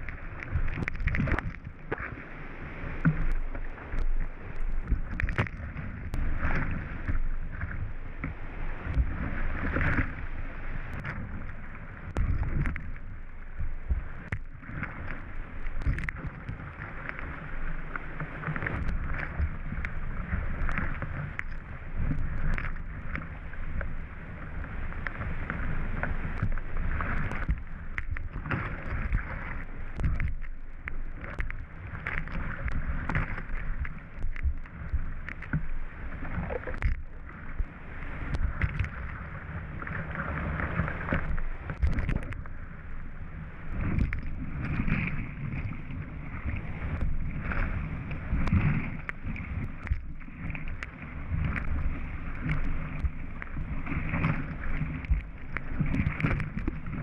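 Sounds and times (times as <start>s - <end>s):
paddle strokes: 0.0s - 57.0s.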